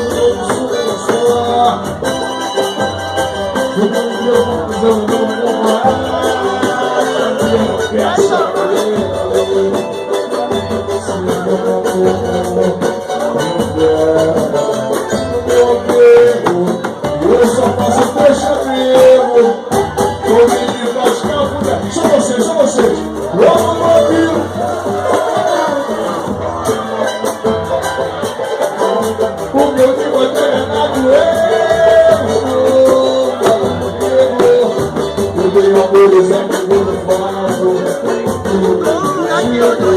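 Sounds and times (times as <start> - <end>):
guitar accompaniment: 0.0 - 39.9
hand percussion: 0.0 - 39.9
person singing: 0.0 - 39.9
pulsing bass line: 0.0 - 39.9.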